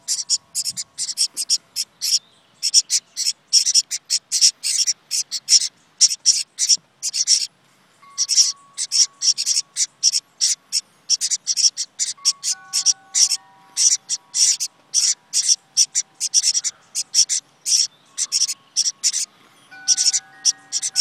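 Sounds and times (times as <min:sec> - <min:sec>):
nestlings chirping: 0:00.0 - 0:21.0.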